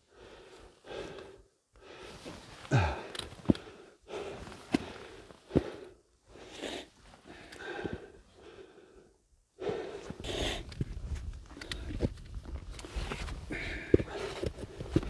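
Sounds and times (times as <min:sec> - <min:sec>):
person breathing heavily: 0:00.0 - 0:10.8, 0:13.4 - 0:15.0.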